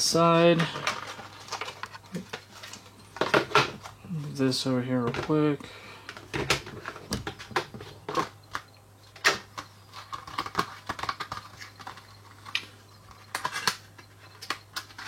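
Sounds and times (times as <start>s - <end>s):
packaging being handled: 0.6s - 4.4s, 6.1s - 15.0s.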